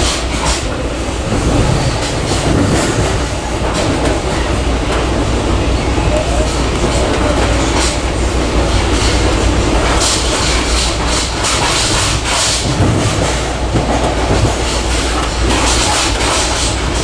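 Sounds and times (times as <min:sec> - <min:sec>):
train rumbling on rails: 0:00.0 - 0:17.0
wheels clicking over rail joints: 0:00.0 - 0:17.0.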